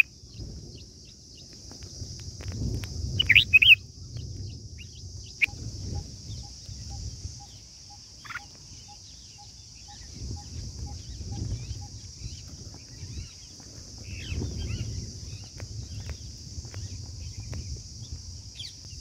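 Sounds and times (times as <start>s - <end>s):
bird chirping: 0.0s - 2.2s, 3.0s - 19.0s.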